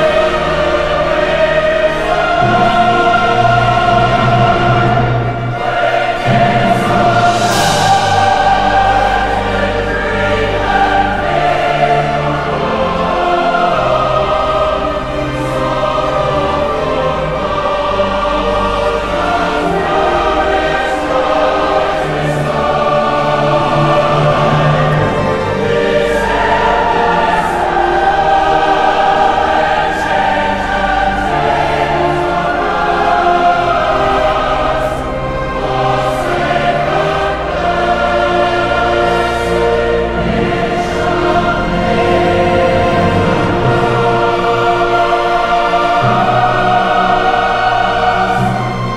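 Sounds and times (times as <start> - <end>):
choir singing slow song: 0.0 - 48.9.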